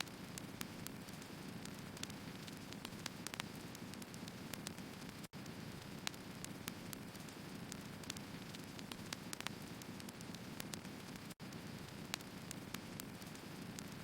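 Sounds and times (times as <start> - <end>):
firewood crackling in open fire: 0.0 - 14.0.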